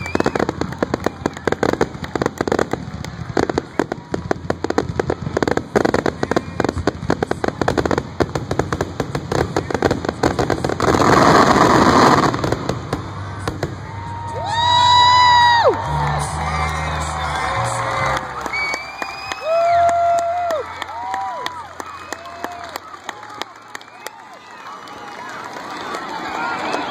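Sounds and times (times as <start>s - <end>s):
fireworks bangs and crackling: 0.0s - 26.9s.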